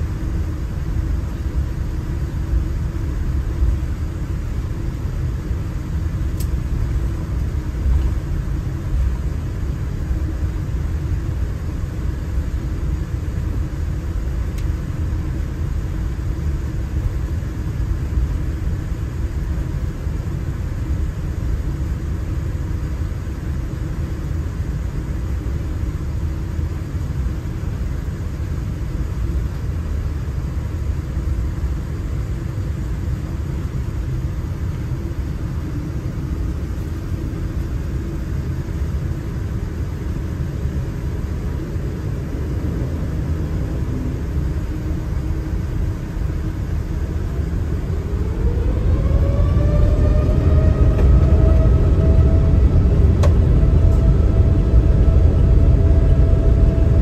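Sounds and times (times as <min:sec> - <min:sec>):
airliner cabin low rumble: 0:00.0 - 0:57.0.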